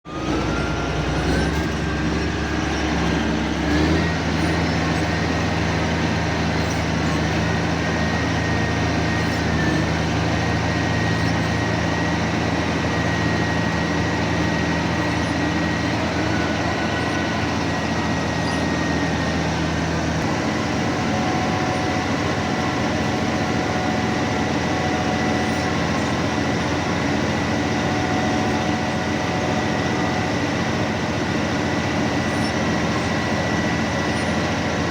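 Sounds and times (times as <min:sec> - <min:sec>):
bulldozer diesel engine running: 0:00.0 - 0:34.9
high steady whine: 0:00.1 - 0:34.9.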